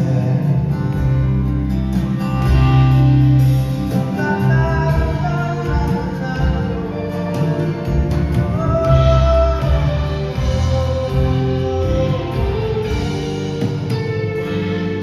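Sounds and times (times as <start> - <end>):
band playing soft instrumental: 0.0 - 15.0.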